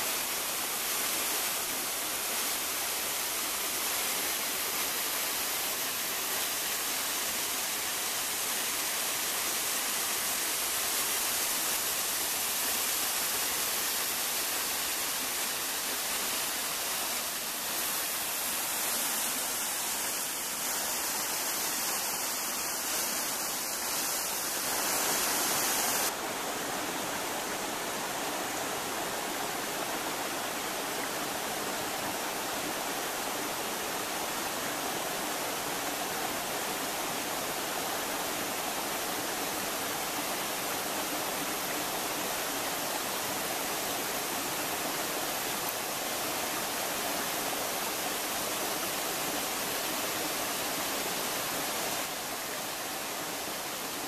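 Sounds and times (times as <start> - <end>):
waterfall rushing over rock: 0.0 - 54.0.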